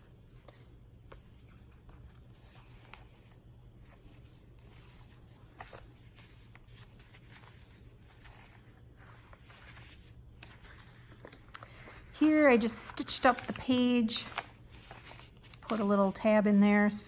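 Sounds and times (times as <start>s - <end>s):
low steady hum: 0.0s - 17.0s
paper pages rustling: 0.0s - 17.0s.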